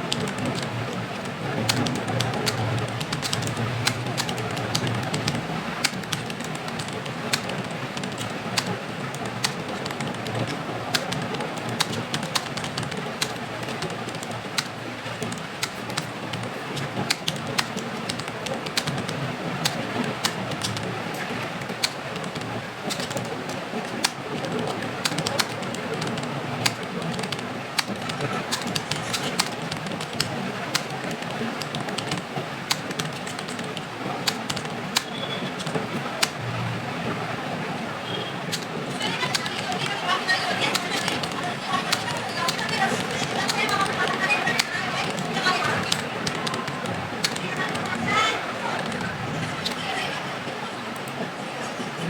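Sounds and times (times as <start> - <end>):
keyboard keystroke clicks: 0.0 - 36.4, 38.1 - 50.0
steady background noise: 0.0 - 52.0.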